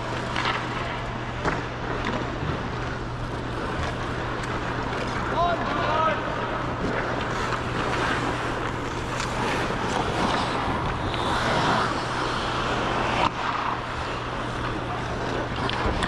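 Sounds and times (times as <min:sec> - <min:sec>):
arena hum: 0:00.0 - 0:16.0
ice skates scraping: 0:00.0 - 0:16.0.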